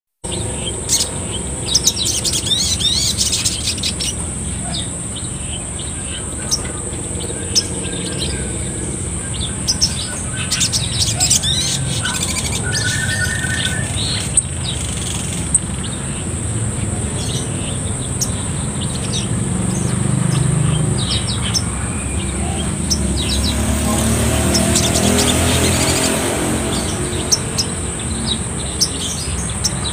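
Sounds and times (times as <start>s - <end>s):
sunbird chirping and trilling: 0.2s - 29.9s
high-pitched whine: 0.3s - 29.9s.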